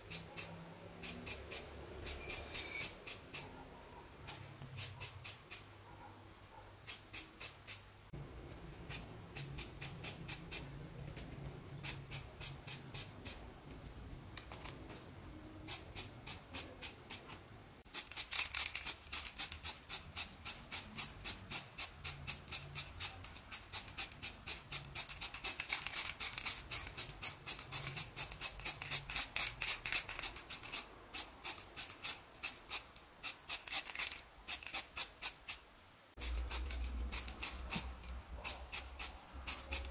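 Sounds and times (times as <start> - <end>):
spray paint hissing in spurts: 0.0 - 3.5, 4.7 - 5.7, 6.8 - 7.9, 8.8 - 10.7, 11.8 - 13.4, 15.6 - 17.2, 17.9 - 39.9.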